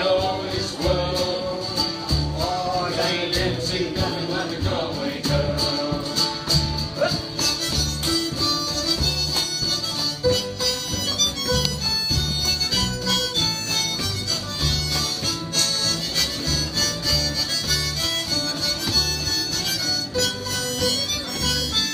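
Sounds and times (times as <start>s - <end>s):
acoustic guitar: 0.0s - 21.9s
harmonica melody: 0.0s - 21.9s
plucked double bass: 0.0s - 21.9s.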